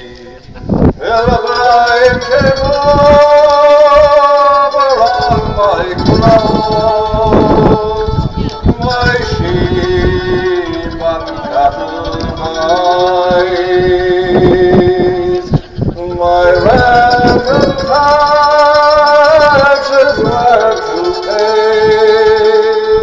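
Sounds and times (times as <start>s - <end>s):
man singing: 0.0s - 23.0s
slow music of long-held notes: 0.0s - 23.0s.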